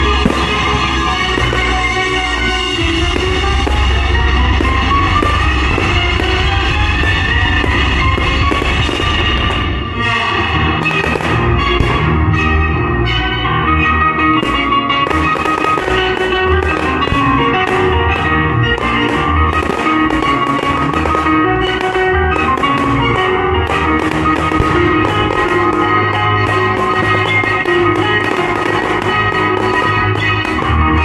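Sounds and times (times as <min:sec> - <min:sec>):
instrumental music with steady beat: 0:00.0 - 0:31.0.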